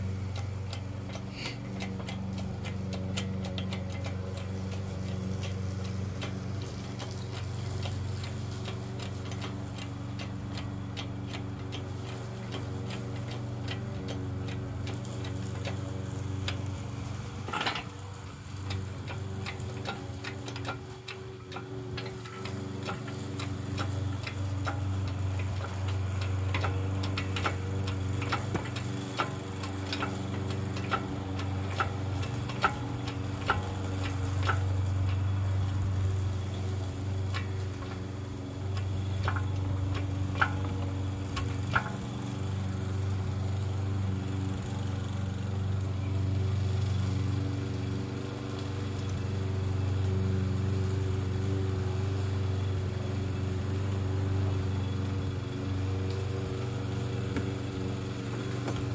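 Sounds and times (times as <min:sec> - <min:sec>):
small engine running: 0:00.0 - 0:58.9.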